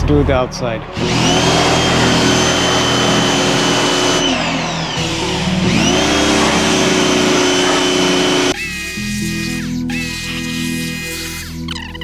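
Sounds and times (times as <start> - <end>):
pressure washer motor whine: 0.9 - 11.8
water jet hissing: 1.2 - 11.8.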